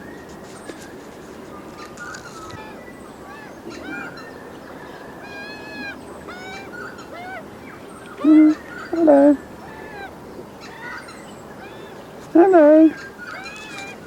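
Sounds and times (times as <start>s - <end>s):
magpies calling: 1.6s - 14.0s.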